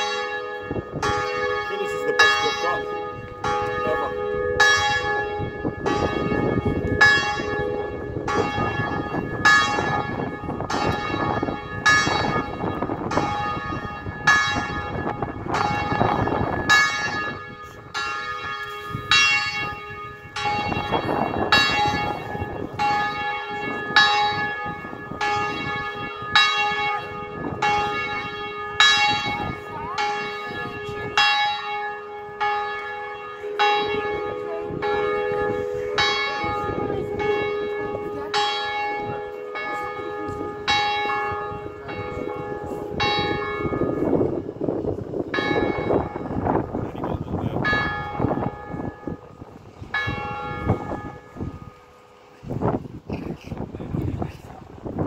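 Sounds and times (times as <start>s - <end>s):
church tower bells ringing: 0.0s - 55.0s.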